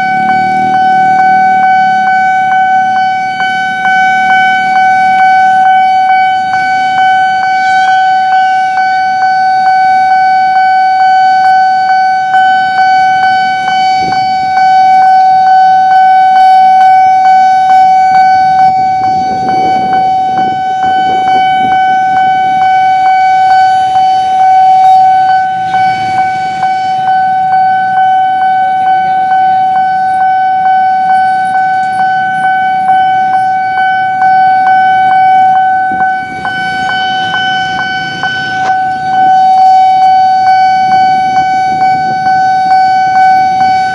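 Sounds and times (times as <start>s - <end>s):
level crossing alarm tone: 0.0s - 43.9s
low rumble of passing traffic: 0.0s - 43.9s
regular ticking: 0.0s - 43.9s.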